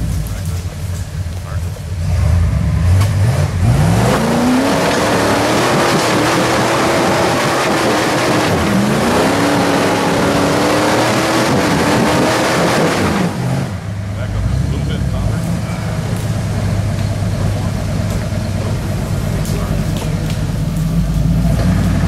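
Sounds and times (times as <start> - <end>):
engine revving hard: 1.9 - 22.0.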